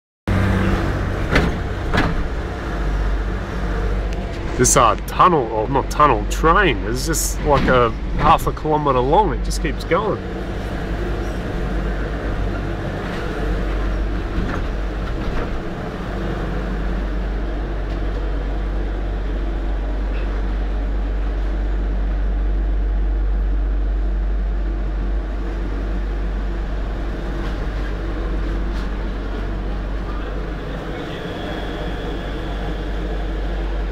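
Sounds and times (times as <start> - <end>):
train wheels rumbling on rails: 0.3 - 33.9.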